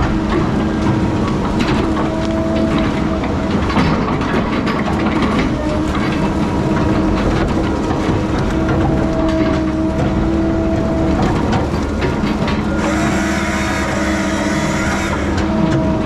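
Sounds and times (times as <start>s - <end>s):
diesel machinery running: 0.0s - 16.0s
metallic clanks and knocks: 0.0s - 16.0s.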